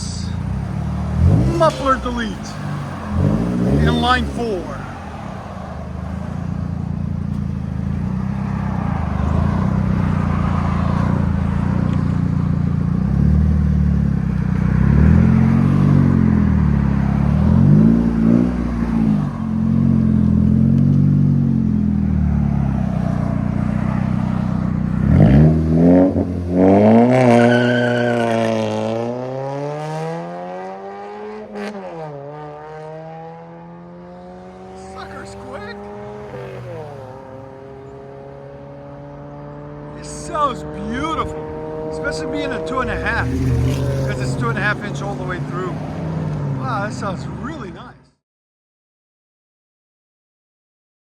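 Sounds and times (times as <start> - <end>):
car engine revving: 0.0 - 47.8.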